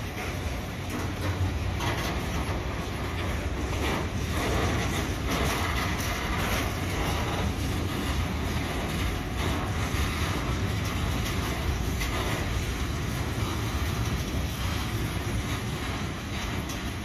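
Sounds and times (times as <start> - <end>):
train wheels rumbling on rail: 0.0 - 17.0
wagons clattering: 0.0 - 17.0.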